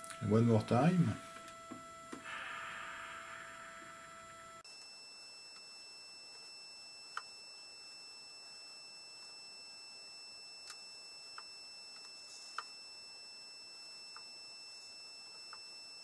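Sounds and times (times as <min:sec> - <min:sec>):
high-pitched electronic whine: 0:00.0 - 0:16.0.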